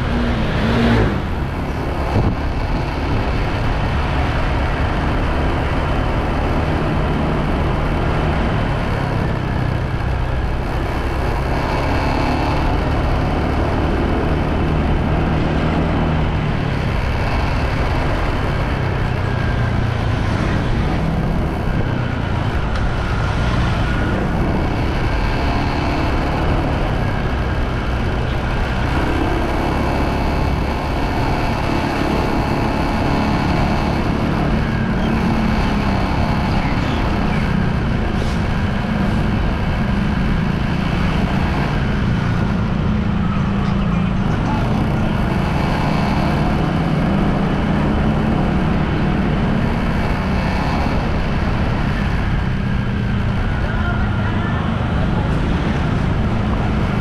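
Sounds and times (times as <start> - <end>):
motorbike engine drone: 0.0 - 57.0
road noise: 0.0 - 57.0
rushing wind: 0.0 - 57.0.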